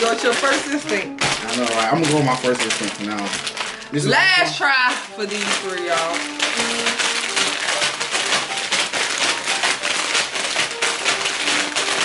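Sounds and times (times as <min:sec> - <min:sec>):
faint background music: 0:00.0 - 0:12.0
foil bags crinkling: 0:00.0 - 0:12.0.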